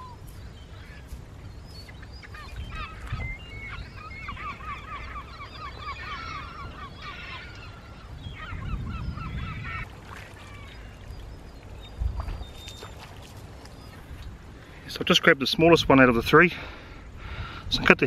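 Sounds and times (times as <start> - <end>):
birds honking calls: 0.0 - 15.4.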